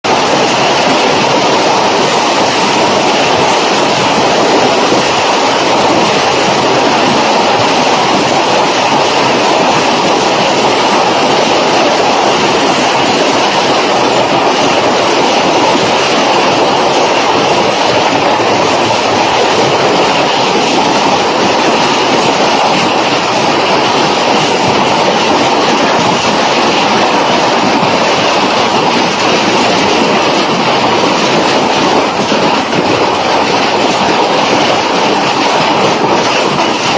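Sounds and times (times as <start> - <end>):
hail pelting down: 0.0 - 36.9.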